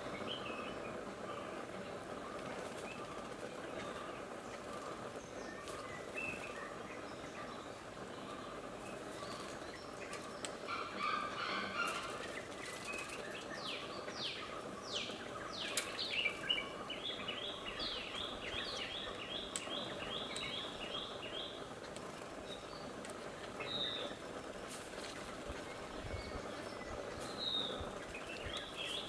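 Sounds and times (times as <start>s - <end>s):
outdoor hiss: 0.0s - 29.0s
songbird calling: 0.0s - 29.0s.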